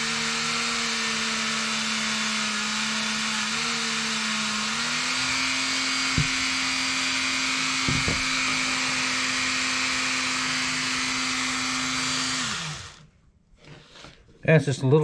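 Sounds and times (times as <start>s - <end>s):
rotary tool wire brush hum: 0.0s - 13.1s.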